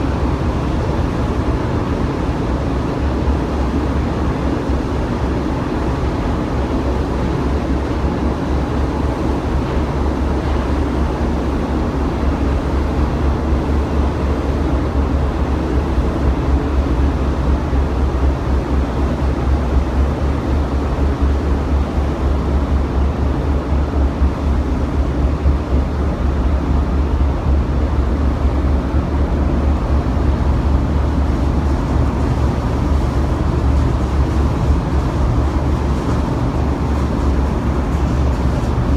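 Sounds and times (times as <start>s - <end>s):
ferry engine drone: 0.0s - 38.9s.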